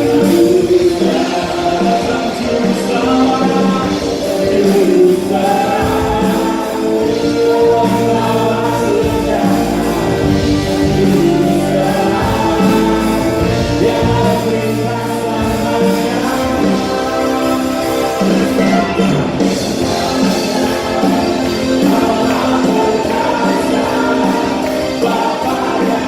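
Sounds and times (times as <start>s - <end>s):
band accompaniment: 0.0s - 26.0s
choir singing: 0.0s - 26.0s
steady bass line: 0.0s - 26.0s.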